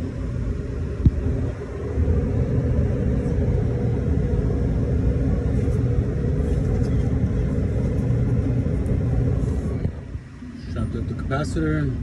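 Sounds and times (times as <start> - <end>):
machinery rumbling: 0.0 - 12.0.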